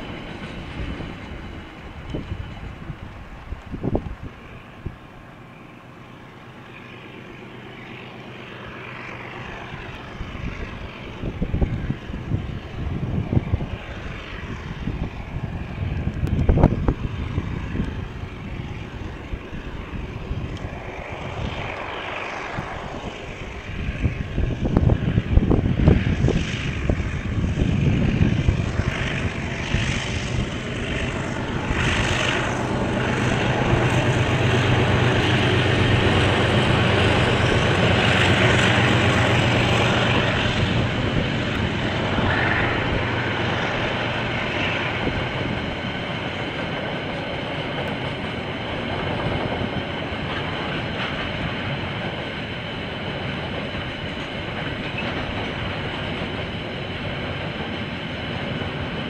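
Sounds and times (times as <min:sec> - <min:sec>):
diesel train engine hum: 0:00.0 - 0:59.0
train wheels rolling on rails: 0:00.0 - 0:59.0.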